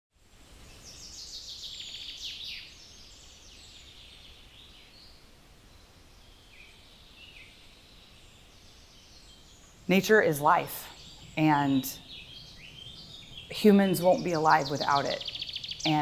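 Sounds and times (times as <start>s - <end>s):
birds chirping and trilling: 0.6s - 16.0s.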